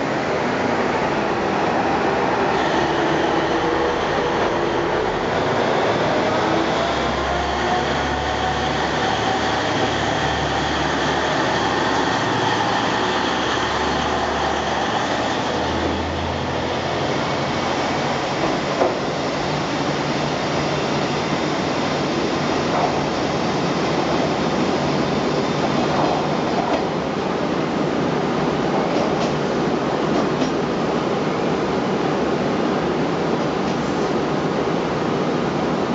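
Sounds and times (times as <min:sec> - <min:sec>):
diesel railcar engine rumble: 0:00.0 - 0:35.9.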